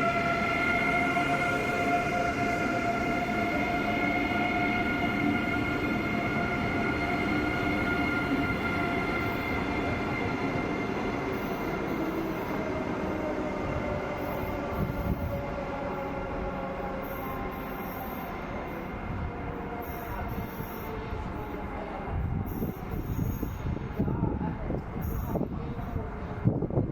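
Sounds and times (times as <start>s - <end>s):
electric train whine: 0.0s - 26.9s
train rolling rumble: 0.0s - 26.9s.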